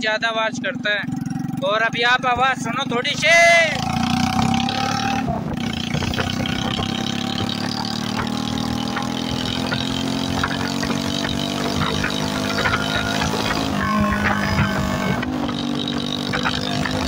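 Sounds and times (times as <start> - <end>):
unmuffled motorcycle exhaust: 0.7 - 17.0.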